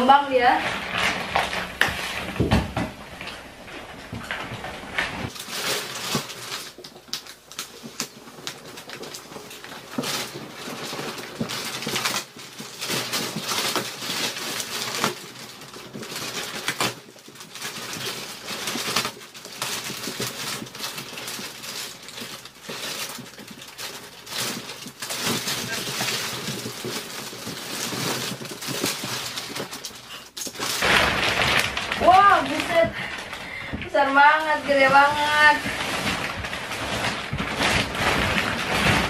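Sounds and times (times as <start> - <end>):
plastic wrapping rustling: 0.0 - 39.0.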